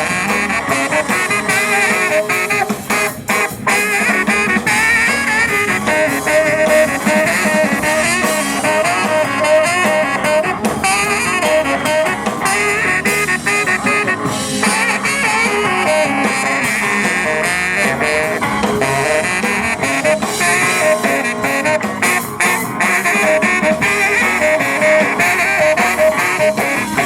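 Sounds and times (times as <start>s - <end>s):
live band playing instrumental: 0.0s - 27.0s.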